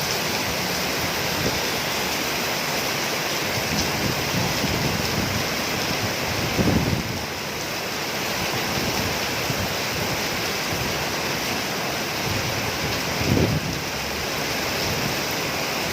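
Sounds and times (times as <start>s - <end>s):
heavy rain falling: 0.0s - 15.9s.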